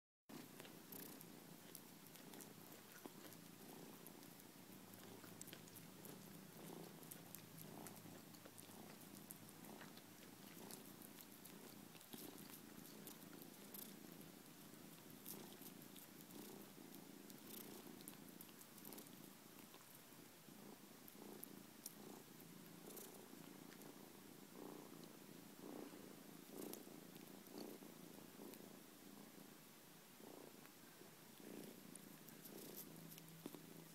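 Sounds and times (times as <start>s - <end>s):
kitten chewing corn: 0.3s - 29.4s, 30.2s - 33.9s
kitten purring: 0.3s - 33.9s.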